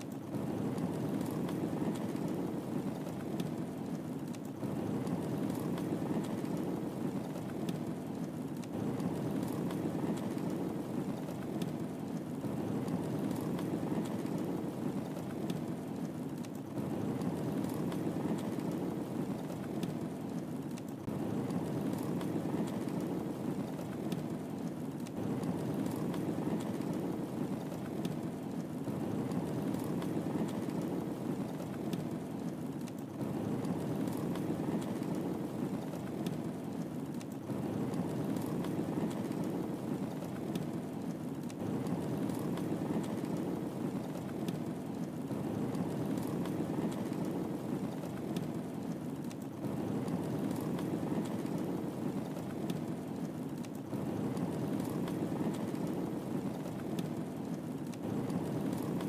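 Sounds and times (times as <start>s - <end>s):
fire crackling and popping: 0.0s - 59.0s
rush of fireplace flames: 0.0s - 59.0s.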